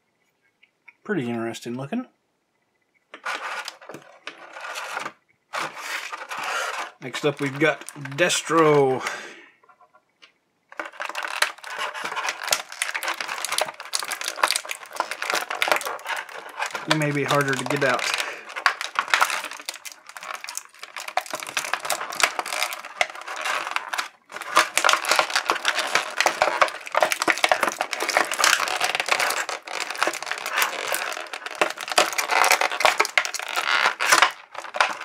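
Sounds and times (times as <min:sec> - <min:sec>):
plastic blister tray crackling: 0:03.2 - 0:09.2, 0:10.7 - 0:35.0.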